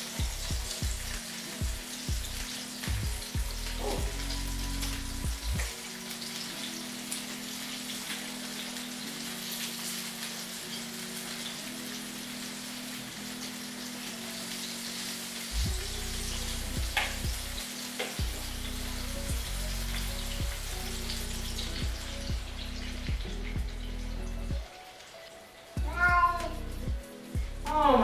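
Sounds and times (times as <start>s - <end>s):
background music: 0.0s - 28.0s
vegetables sizzling in a pan: 0.0s - 28.0s.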